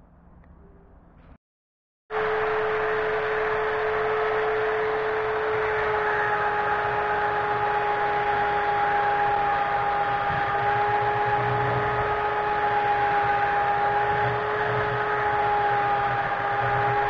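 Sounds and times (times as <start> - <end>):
belt sander whining: 2.1 - 17.0.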